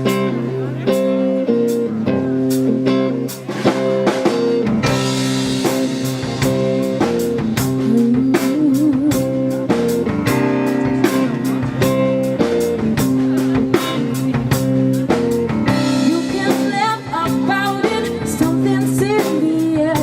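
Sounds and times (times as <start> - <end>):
guitar note bending: 0.0 - 18.7
rock band playing: 0.0 - 20.0.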